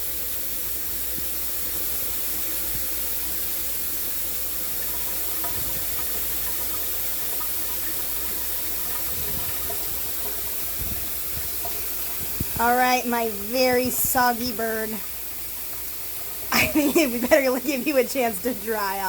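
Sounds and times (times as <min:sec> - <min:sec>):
shower spray hissing: 0:00.0 - 0:19.0.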